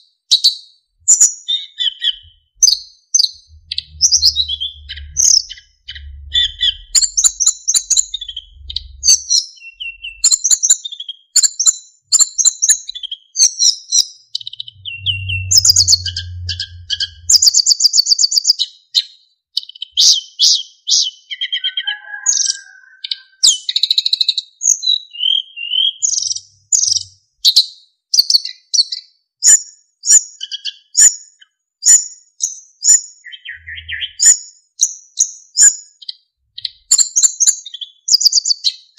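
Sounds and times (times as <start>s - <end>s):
bird singing: 0.0s - 29.1s, 30.1s - 38.9s.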